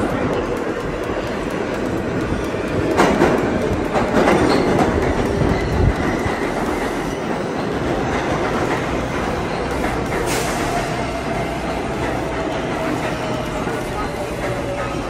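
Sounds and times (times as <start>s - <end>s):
subway train rumbling: 0.0s - 15.0s
wheels clattering on rails: 0.0s - 15.0s.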